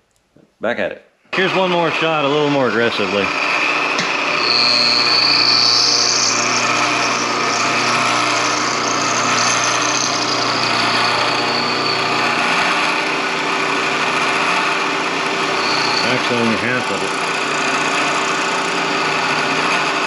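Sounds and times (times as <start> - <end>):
high-pitched cutting whine: 1.4 - 20.0
milling machine low hum: 1.4 - 20.0.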